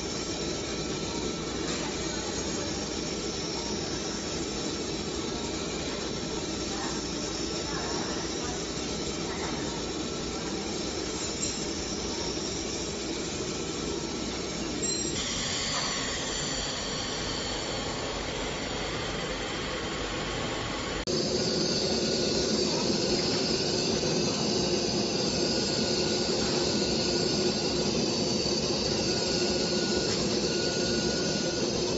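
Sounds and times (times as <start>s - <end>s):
laser cutting machine hissing: 0.0s - 31.9s
motor whines: 0.0s - 31.9s.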